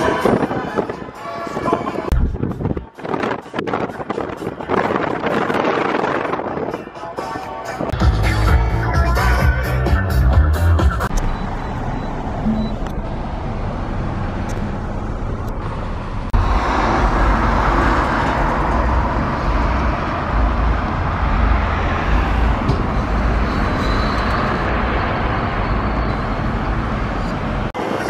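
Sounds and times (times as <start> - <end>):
cars passing on road: 0.0 - 28.0.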